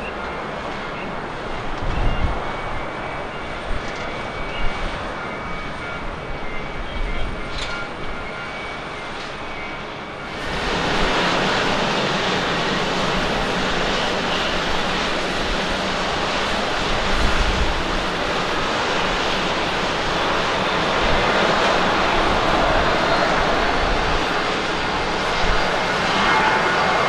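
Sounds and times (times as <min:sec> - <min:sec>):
jet engines climbing: 0:00.0 - 0:27.0
jet taxiing: 0:00.0 - 0:27.0.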